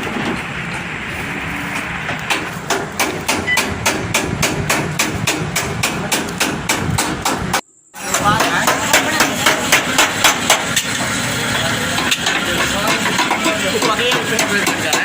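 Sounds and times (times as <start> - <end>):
hammer beating sheet metal: 2.2 - 11.2, 11.9 - 15.0.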